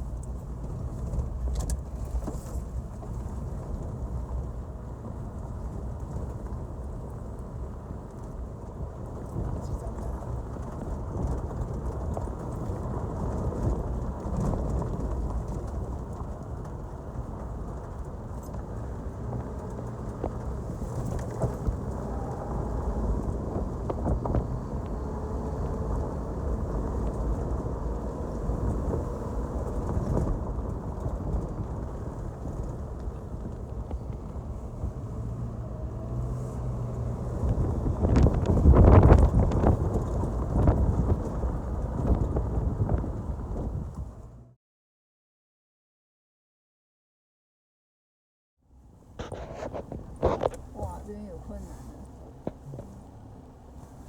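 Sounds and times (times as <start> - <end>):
vehicle engine and road rumble: 0.0 - 44.6, 48.6 - 54.0.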